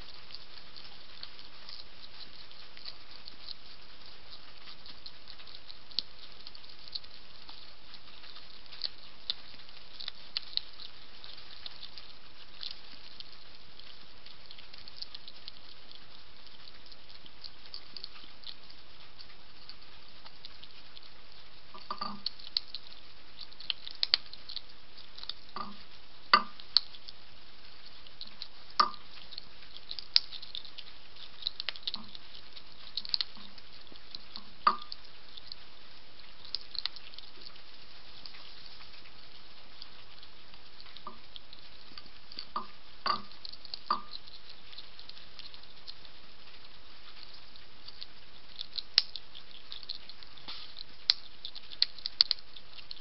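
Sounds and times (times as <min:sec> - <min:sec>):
hedgehog crunching dry food: 0:00.0 - 0:53.0
steady hiss: 0:00.0 - 0:53.0.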